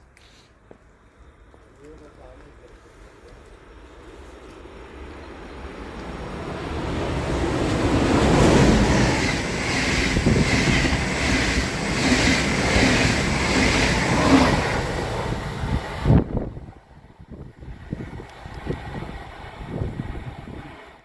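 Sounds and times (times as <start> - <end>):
train passing at speed: 3.0 - 21.0.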